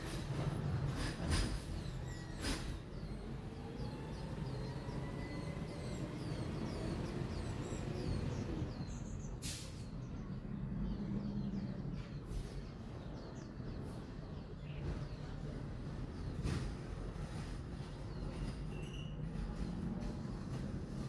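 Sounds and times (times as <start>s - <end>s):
small birds chirping: 1.6s - 21.0s.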